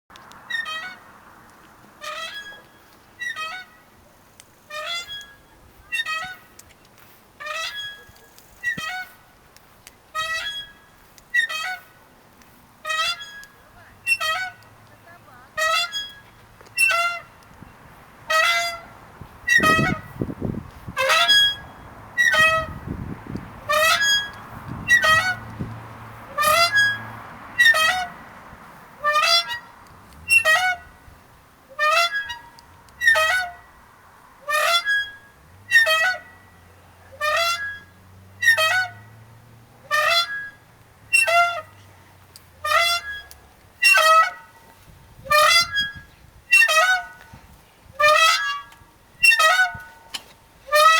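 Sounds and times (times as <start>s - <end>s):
swing creaking: 0.1s - 50.9s.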